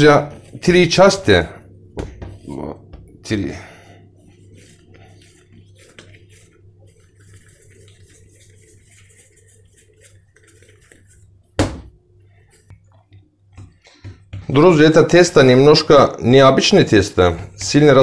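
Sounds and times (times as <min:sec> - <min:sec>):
dough being shaped by hand: 0:00.0 - 0:15.9, 0:16.6 - 0:18.0
steady low hum: 0:00.0 - 0:18.0.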